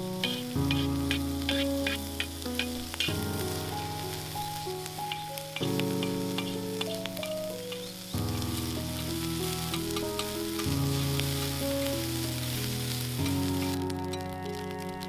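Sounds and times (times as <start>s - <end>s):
background music: 0.0s - 15.0s
food sizzling on a grill: 0.0s - 15.0s.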